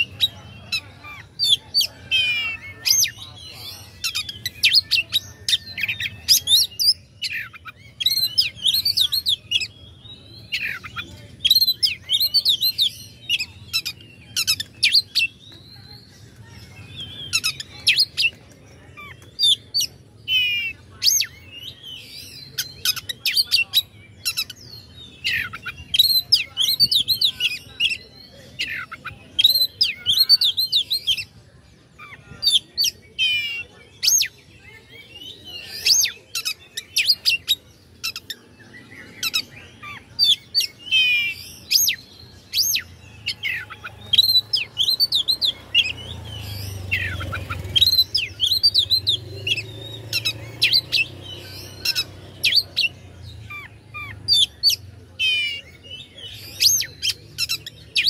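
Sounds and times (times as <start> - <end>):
bird singing fast song: 0.0 - 58.0.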